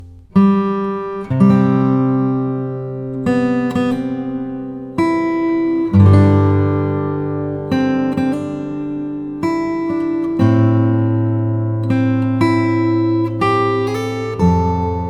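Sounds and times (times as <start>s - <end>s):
guitar chords ringing: 0.0s - 15.0s.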